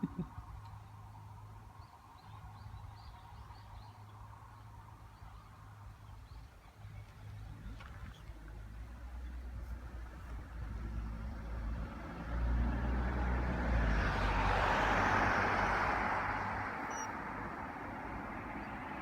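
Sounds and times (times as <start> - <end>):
tyre and road noise: 0.0 - 19.0
vehicle engine hum: 0.0 - 19.0.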